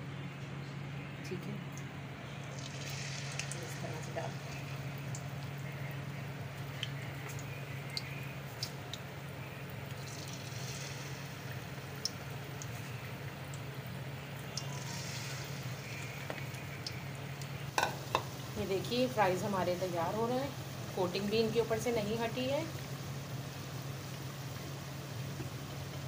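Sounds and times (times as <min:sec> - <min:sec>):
steady low hum: 0:00.0 - 0:26.0
fries sizzling in hot oil: 0:02.3 - 0:26.0.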